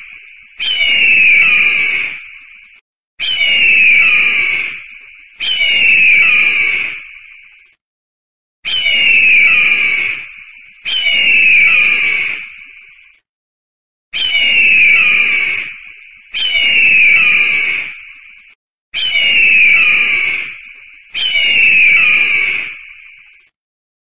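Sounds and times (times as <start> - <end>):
bird of prey screaming: 0.0 - 7.7, 8.6 - 13.2, 14.1 - 23.5.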